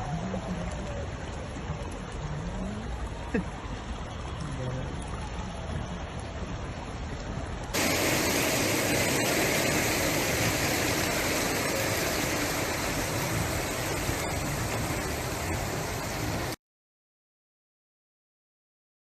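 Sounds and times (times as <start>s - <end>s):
rushing water: 0.0s - 16.6s.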